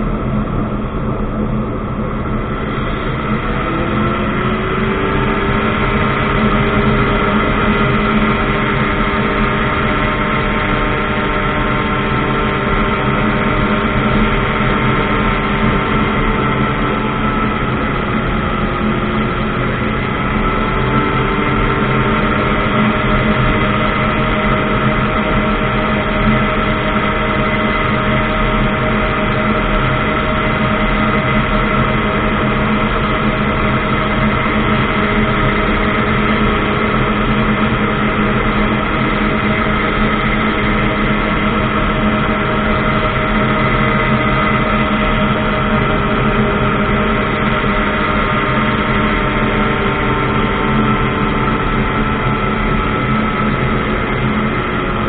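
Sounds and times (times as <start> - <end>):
ultralight aircraft engine and propeller: 0.0 - 55.0.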